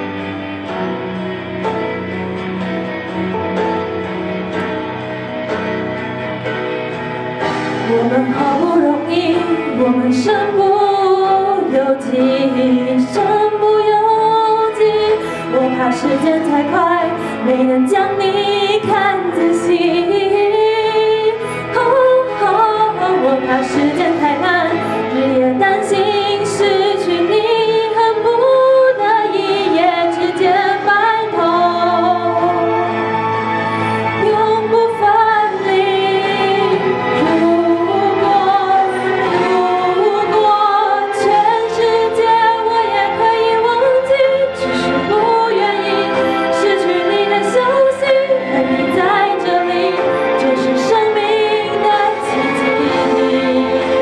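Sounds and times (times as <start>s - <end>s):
karaoke backing track: 0.0s - 54.0s
woman singing pop ballad into microphone: 7.8s - 32.9s, 34.2s - 54.0s.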